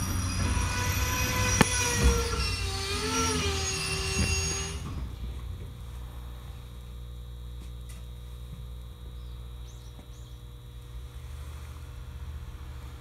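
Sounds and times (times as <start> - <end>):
electrical hum from train: 0.0 - 13.0.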